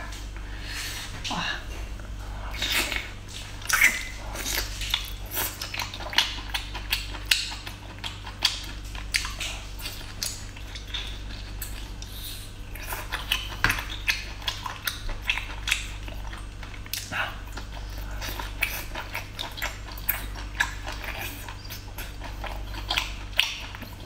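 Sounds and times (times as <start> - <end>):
person chewing wet bites: 2.0 - 24.0.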